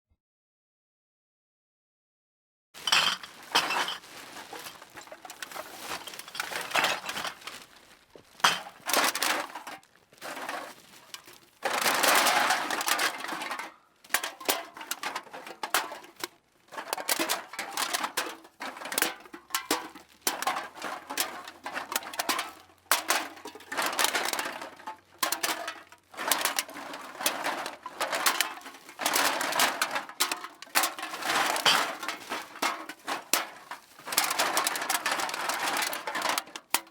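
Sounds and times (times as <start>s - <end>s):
empty aluminium cans clattering: 2.8s - 7.6s, 8.4s - 36.9s.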